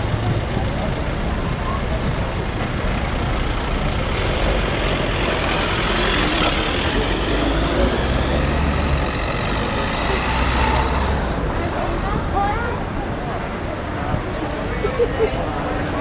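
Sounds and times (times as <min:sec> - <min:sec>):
car engines rumbling: 0:00.0 - 0:16.0
tyre noise from passing cars: 0:00.0 - 0:16.0.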